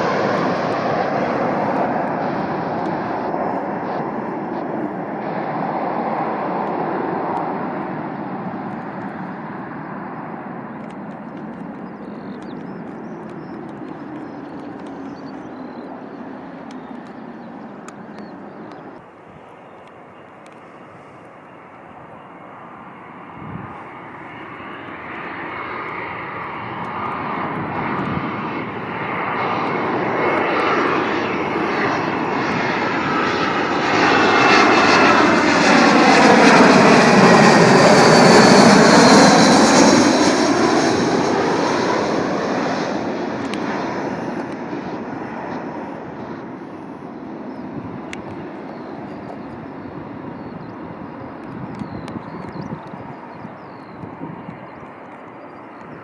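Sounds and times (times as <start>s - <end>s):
jet airliner passing: 0.0s - 56.0s.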